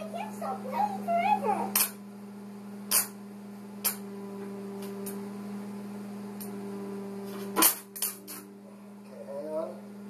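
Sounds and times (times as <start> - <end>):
arc welder buzzing: 0.0 - 9.7.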